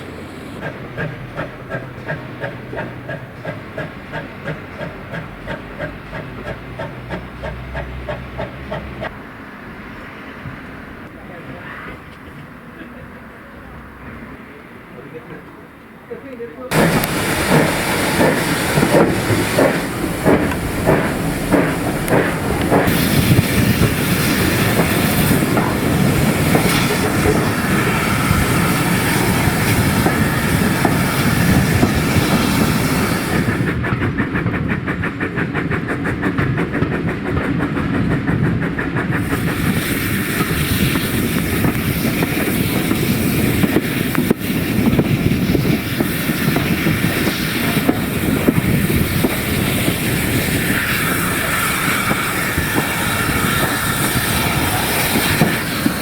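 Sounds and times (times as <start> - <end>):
train rumbling past: 0.0 - 56.0
wheels clicking over rail joints: 0.6 - 9.2, 16.3 - 56.0.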